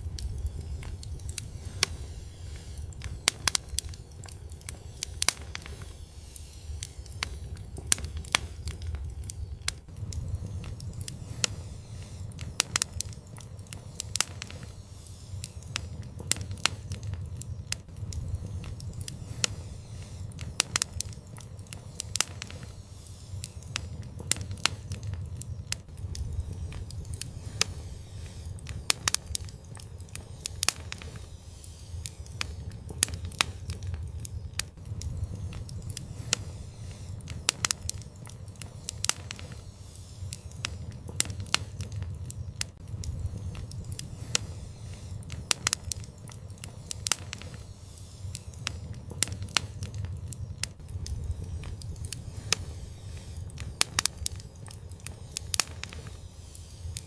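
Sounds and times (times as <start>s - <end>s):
low rumble of burning: 0.0s - 57.0s
wood fire crackling and popping: 0.0s - 57.0s.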